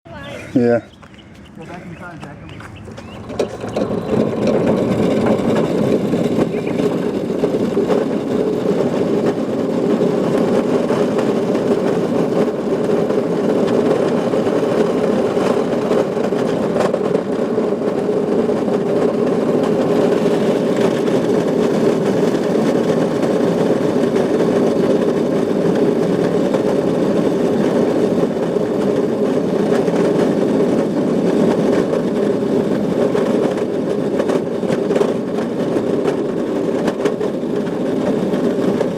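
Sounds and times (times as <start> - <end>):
go-kart motor running: 0.1 - 38.9.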